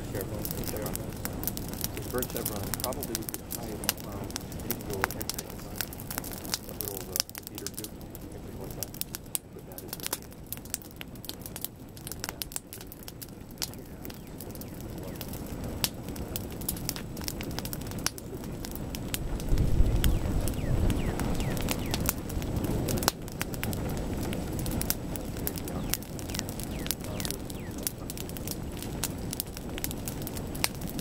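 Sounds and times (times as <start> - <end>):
lava crackling and popping: 0.0 - 31.0.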